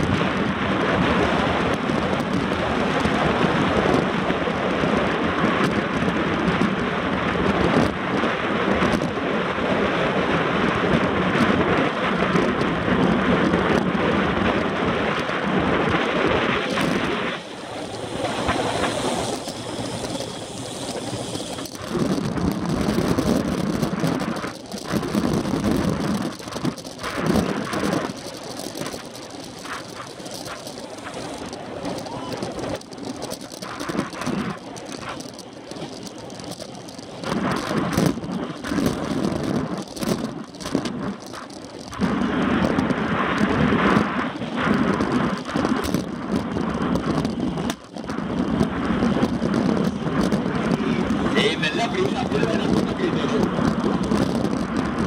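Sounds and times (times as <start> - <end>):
road and tyre noise: 0.0 - 55.0
wind rushing over microphone: 0.0 - 55.0.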